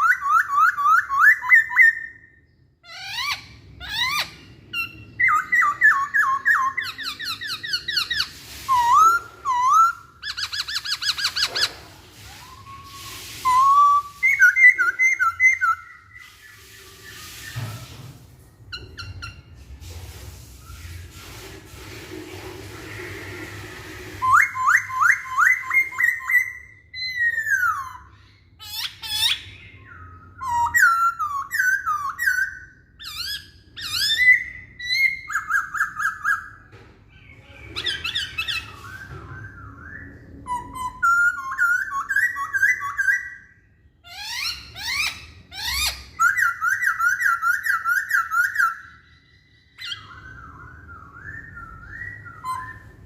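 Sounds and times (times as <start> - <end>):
bird singing whistled phrases: 0.0 - 17.7, 24.2 - 53.0.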